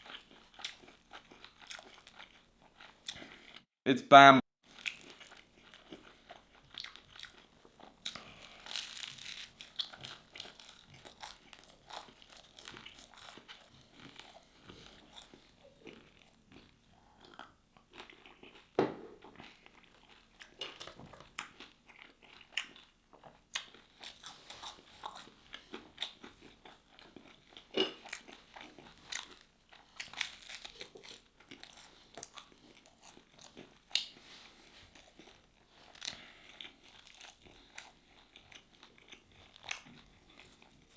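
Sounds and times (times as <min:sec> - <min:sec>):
person chewing crunchy food: 0:00.0 - 0:03.7, 0:04.6 - 0:40.9.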